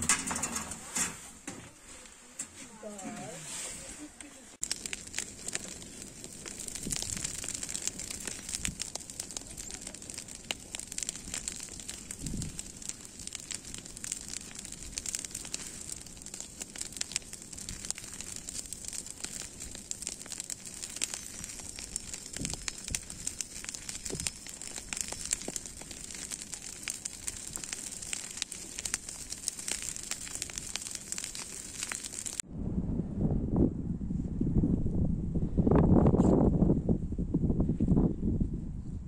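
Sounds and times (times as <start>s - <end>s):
bonfire crackling and popping: 0.0s - 32.4s.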